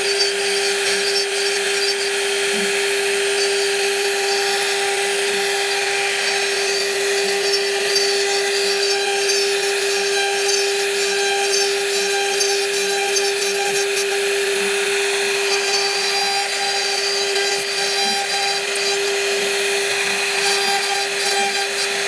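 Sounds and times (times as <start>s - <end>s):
power tool cutting wood: 0.0s - 22.0s.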